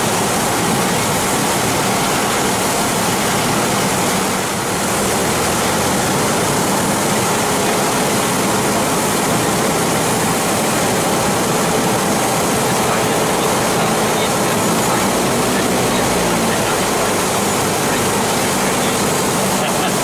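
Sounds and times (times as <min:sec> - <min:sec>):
propeller plane engine drone: 0:00.0 - 0:20.0
rushing air: 0:00.0 - 0:20.0.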